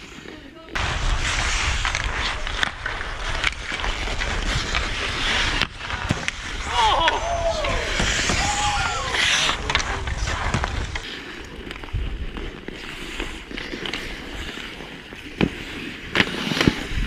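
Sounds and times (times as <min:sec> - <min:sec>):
skate blades scraping ice: 0:00.0 - 0:17.0
hockey sticks and puck clacking: 0:01.8 - 0:17.0.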